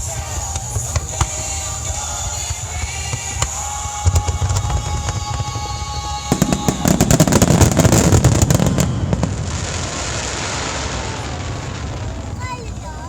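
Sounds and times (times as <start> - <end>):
music: 0.0 - 10.8
fireworks bangs and crackles: 0.0 - 13.0
fireworks rumbling: 0.0 - 13.0.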